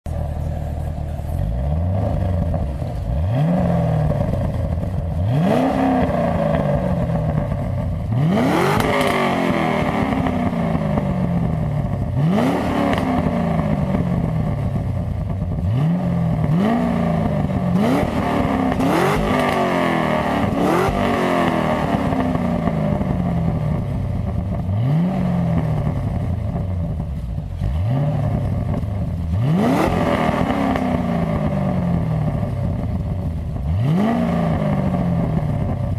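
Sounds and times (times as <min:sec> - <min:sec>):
engine revving through exhaust: 0:00.1 - 0:35.9.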